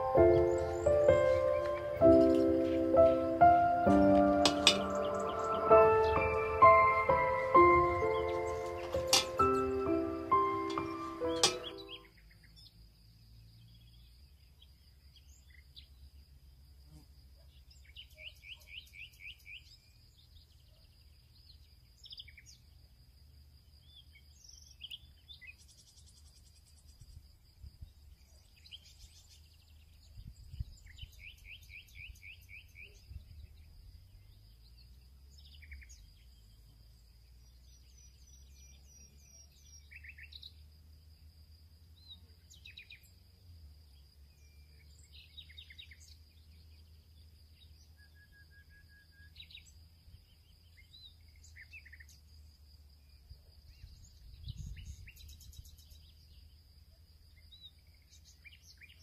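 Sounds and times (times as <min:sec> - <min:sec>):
faint birdsong chirps and trills: 0:00.0 - 0:59.0.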